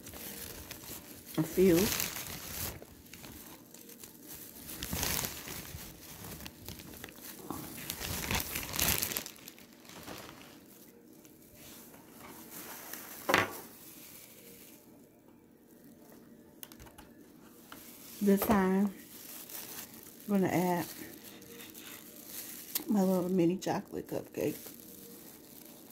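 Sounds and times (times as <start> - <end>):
plastic packaging crinkling: 0.0 - 25.9.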